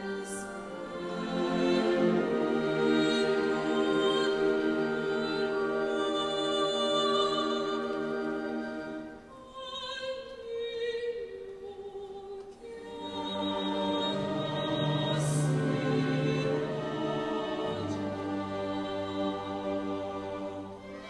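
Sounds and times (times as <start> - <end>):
choir singing sustained chords: 0.0 - 11.4, 12.5 - 21.0.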